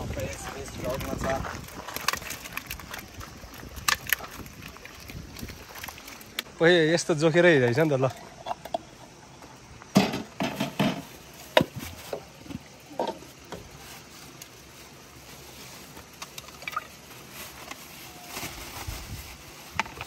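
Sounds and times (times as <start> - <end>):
water sloshing and splashing: 0.0 - 6.6, 7.6 - 18.4.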